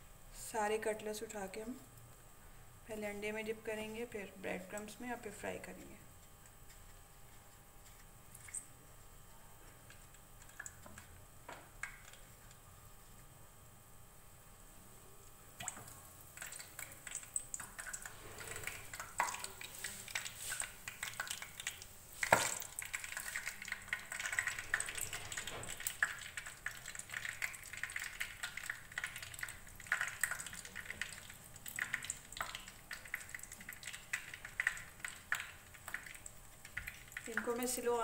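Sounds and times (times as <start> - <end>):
food frying in oil: 0.0 - 38.0.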